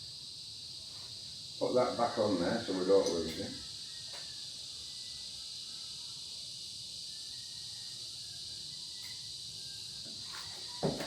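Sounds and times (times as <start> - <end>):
high-pitched background hiss: 0.0 - 11.0.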